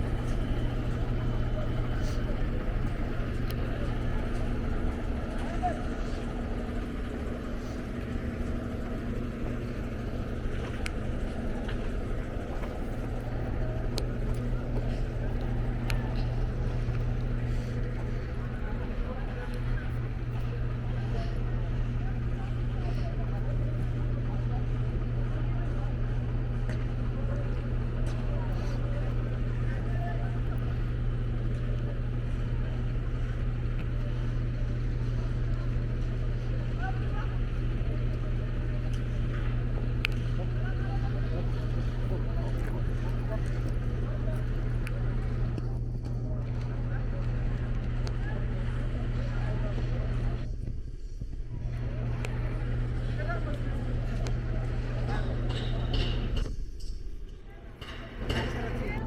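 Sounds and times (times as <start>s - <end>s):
engines rumbling: 0.0s - 59.0s
street activity noise: 0.0s - 59.0s.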